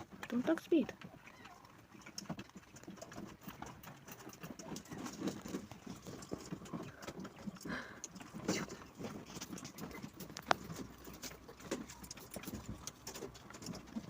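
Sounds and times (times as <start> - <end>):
quail tapping on hard surface: 0.0 - 14.0.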